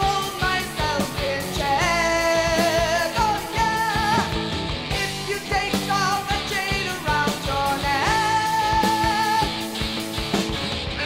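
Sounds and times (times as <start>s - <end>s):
rock band music: 0.0s - 11.0s
steady drum beat: 0.0s - 11.0s.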